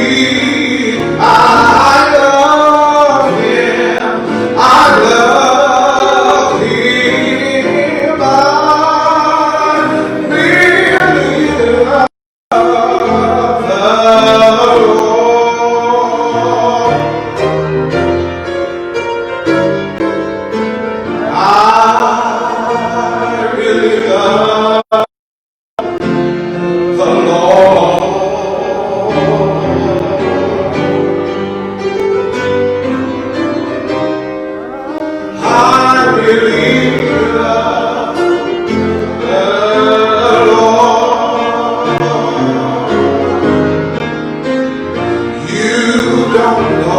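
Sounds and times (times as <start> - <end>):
voices singing gospel: 0.0 - 17.6, 21.0 - 25.1, 26.9 - 32.6, 34.7 - 44.6, 45.2 - 46.9
keyboard accompaniment: 0.0 - 25.1, 25.8 - 46.9.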